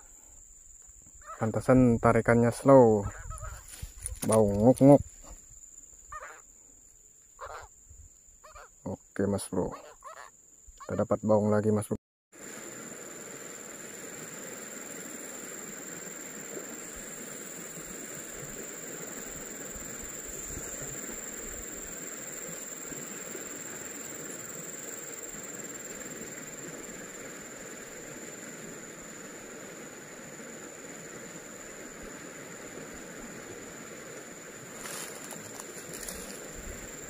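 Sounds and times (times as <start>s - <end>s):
outdoor background hiss: 0.0s - 37.0s.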